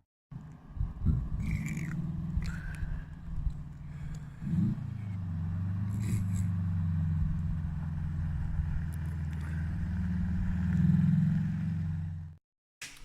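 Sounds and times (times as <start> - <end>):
car engine low drone: 0.3 - 12.4.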